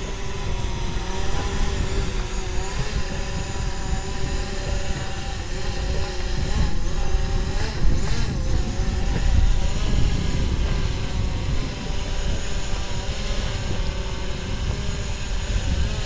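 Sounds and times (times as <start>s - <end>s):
drone propeller whine: 0.0s - 16.0s.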